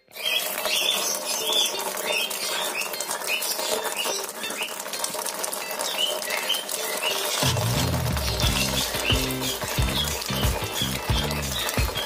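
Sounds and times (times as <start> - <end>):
water pouring and splashing: 0.1 - 12.0
wet wings flapping: 0.3 - 12.0.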